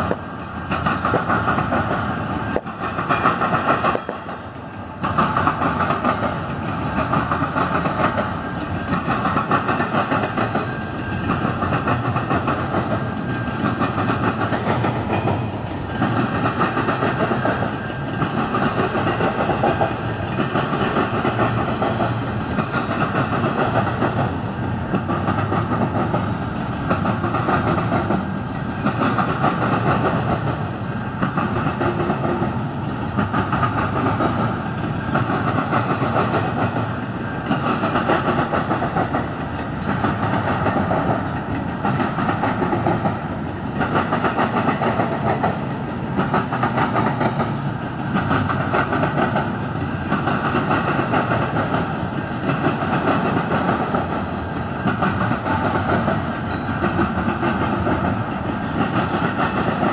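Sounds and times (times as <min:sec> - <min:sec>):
freight train wheels clattering on rails: 0:00.0 - 0:59.9.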